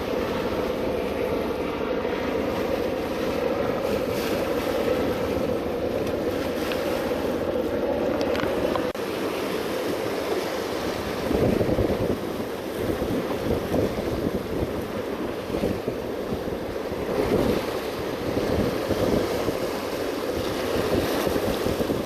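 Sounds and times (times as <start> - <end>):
wind buffeting microphone: 0.0 - 22.0
waves washing against rocks: 2.3 - 22.0.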